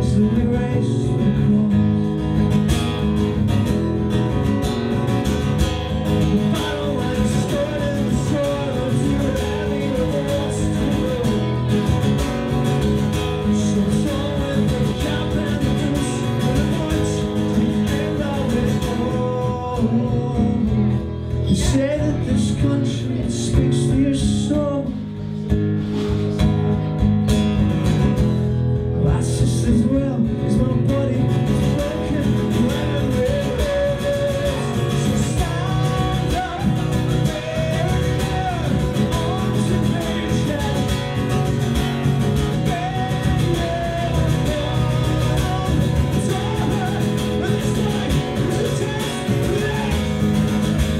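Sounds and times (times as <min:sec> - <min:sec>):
man singing: 0:00.0 - 0:03.7, 0:05.2 - 0:26.5, 0:28.8 - 0:50.9
strummed acoustic guitar: 0:00.0 - 0:50.9.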